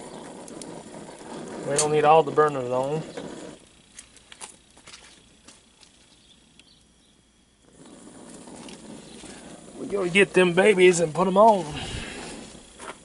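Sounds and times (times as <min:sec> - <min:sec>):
gas burner hissing: 0:00.0 - 0:13.0.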